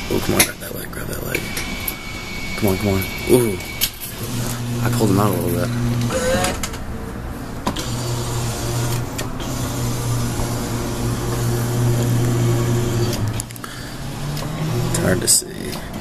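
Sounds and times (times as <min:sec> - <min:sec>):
claw machine motors whirring: 0:00.0 - 0:16.0.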